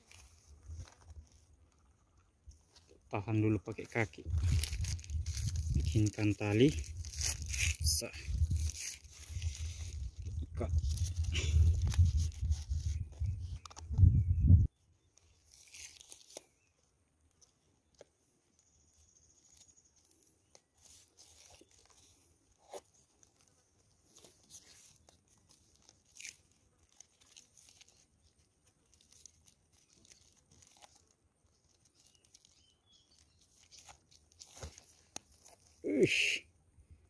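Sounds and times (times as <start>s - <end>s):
plastic string rustling and crinkling: 0.0s - 14.3s, 15.0s - 36.0s.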